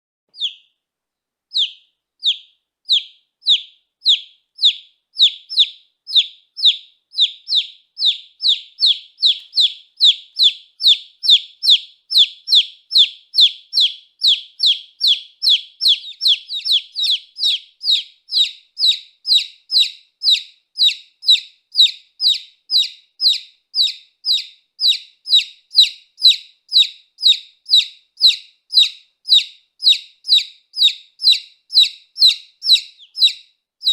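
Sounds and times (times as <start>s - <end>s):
chick peeping: 0.3s - 0.7s, 1.5s - 33.9s.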